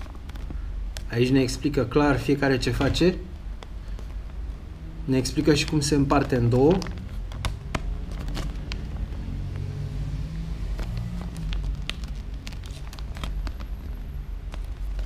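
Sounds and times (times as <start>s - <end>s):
paper crinkling: 0.0s - 1.6s, 2.2s - 9.7s, 10.6s - 15.0s
steady low rumble: 0.0s - 15.0s.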